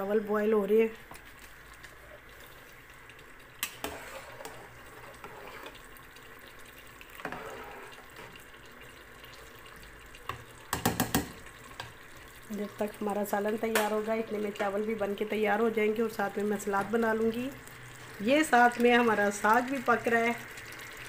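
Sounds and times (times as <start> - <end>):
rice boiling in pot: 0.0 - 21.0.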